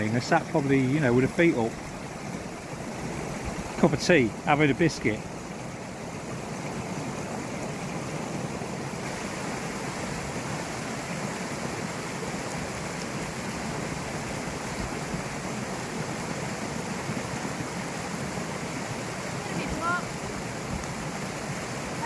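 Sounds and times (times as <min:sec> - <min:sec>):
fast-running stream water: 0:00.0 - 0:22.0.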